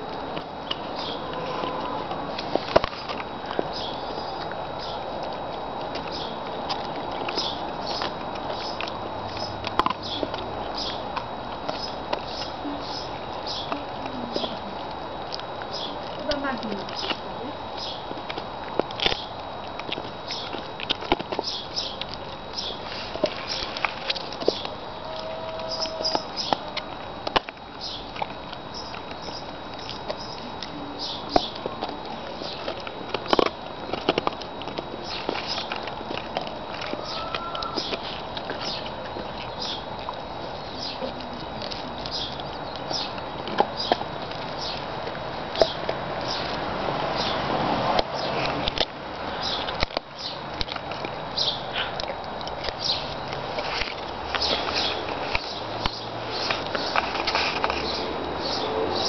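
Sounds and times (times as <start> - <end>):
dog chewing a bone: 0.0 - 59.0.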